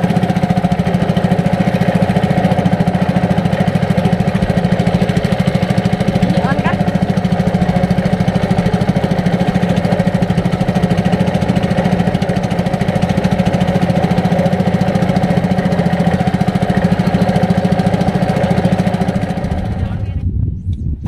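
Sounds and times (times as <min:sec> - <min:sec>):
boat engine chugging: 0:00.0 - 0:20.2.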